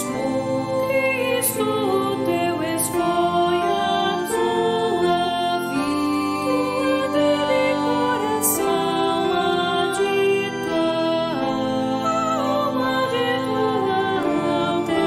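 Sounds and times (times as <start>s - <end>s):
hymn singing with accompaniment: 0.0s - 15.0s.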